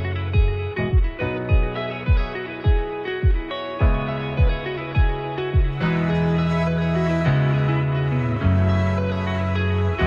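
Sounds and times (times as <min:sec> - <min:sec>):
plucked string music with beat: 0:00.0 - 0:10.0.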